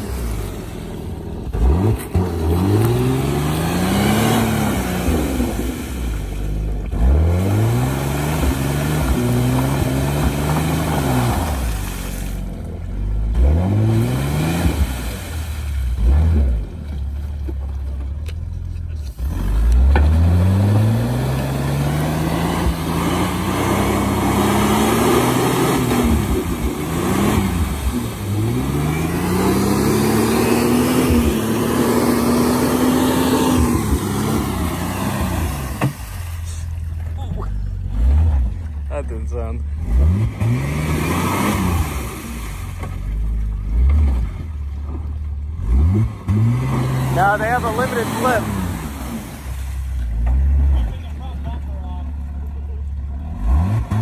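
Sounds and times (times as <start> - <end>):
engine revving without muffler: 0.0 - 12.4, 13.0 - 16.8, 19.0 - 36.7, 37.7 - 51.2, 53.0 - 54.0.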